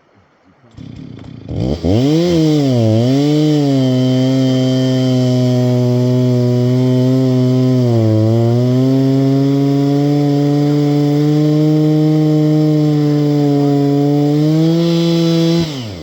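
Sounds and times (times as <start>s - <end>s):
chainsaw engine running: 0.7s - 16.0s.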